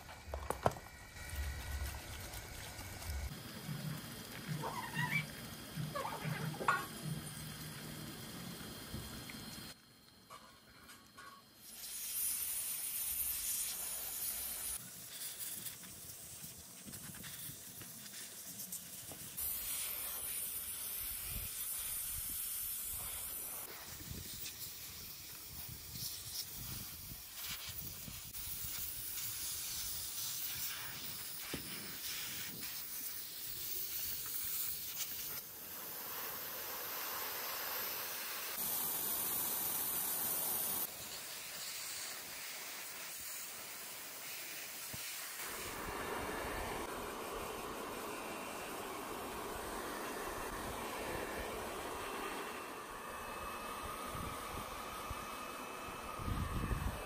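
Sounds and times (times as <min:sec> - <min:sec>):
compressed-air blow gun hissing: 0:00.0 - 0:09.8, 0:11.6 - 0:57.0.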